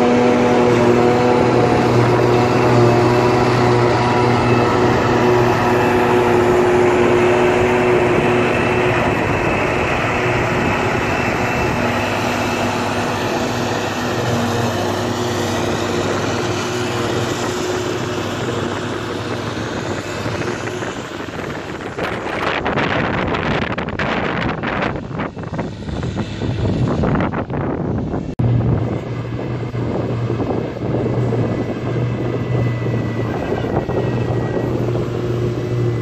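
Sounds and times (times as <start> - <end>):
forage harvester droning: 0.0 - 36.0
wind buffeting microphone: 0.0 - 36.0.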